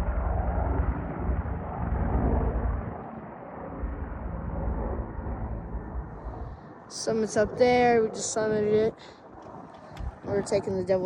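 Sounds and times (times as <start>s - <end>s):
helicopter rumble: 0.0s - 11.0s
wind buffeting microphone: 0.0s - 11.0s.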